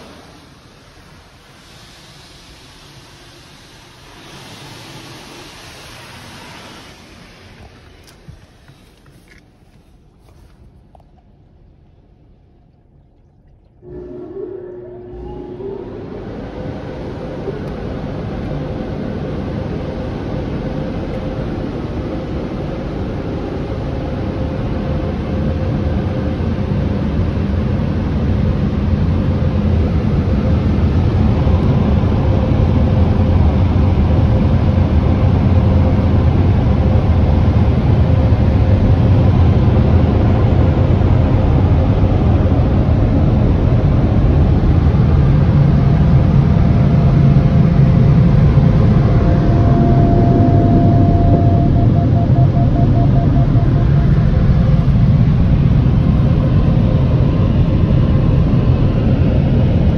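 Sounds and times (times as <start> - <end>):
car wash dryer blowers: 0.0 - 11.0, 13.8 - 59.9.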